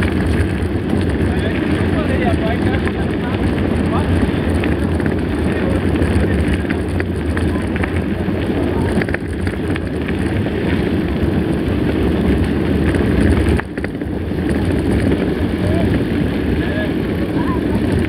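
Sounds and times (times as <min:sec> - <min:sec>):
bike tyres rumbling on gravel: 0:00.0 - 0:18.0
gravel and bike rattles: 0:00.0 - 0:18.0
wind on microphone: 0:00.0 - 0:18.0.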